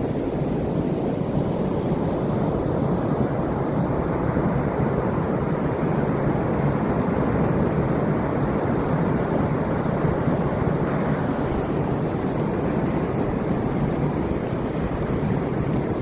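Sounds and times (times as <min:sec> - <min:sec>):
ocean surf rushing: 0:00.0 - 0:16.0
wind buffeting microphone: 0:00.0 - 0:16.0.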